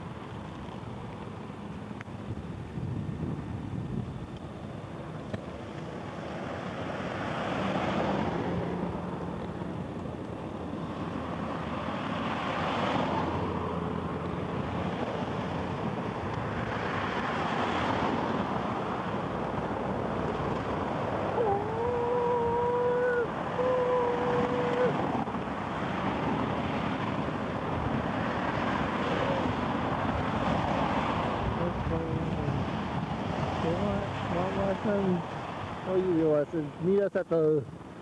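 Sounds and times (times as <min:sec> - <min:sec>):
cars passing: 0:03.4 - 0:38.0.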